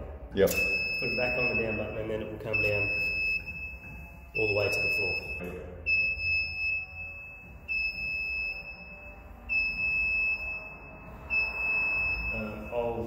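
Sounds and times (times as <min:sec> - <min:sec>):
lift warning beeper: 0:00.5 - 0:13.0.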